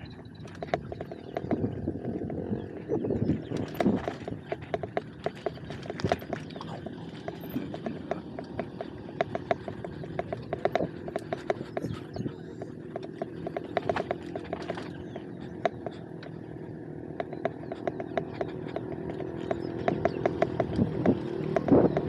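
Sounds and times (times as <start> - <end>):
bike clicks and knocks: 0.0 - 22.0.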